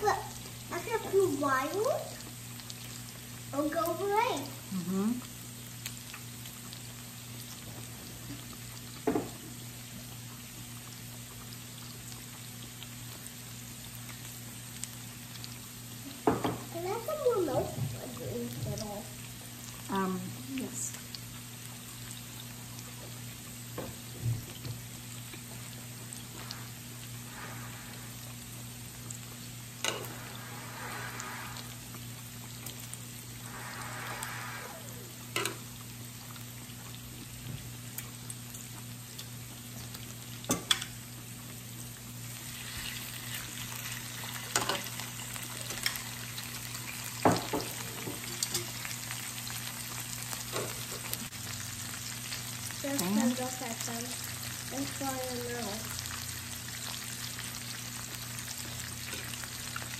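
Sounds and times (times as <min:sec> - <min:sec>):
meat sizzling on grill: 0:00.0 - 0:59.9.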